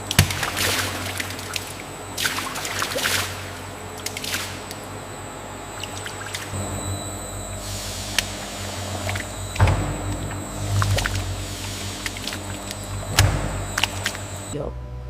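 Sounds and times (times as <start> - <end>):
low machine hum: 0.0 - 15.0
liquid splashing and pouring: 0.1 - 4.8, 5.7 - 6.6, 7.6 - 14.5.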